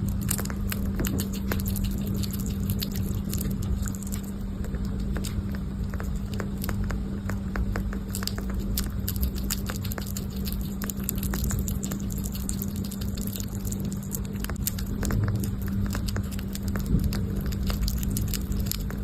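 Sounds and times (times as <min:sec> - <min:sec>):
small animal chewing crunchily: 0:00.0 - 0:19.0
steady low hum: 0:00.0 - 0:19.0.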